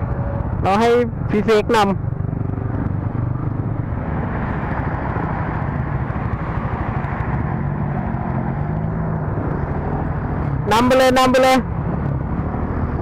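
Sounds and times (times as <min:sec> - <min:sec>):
scooter engine running: 0:00.0 - 0:10.6
wind rushing over microphone: 0:00.0 - 0:10.7.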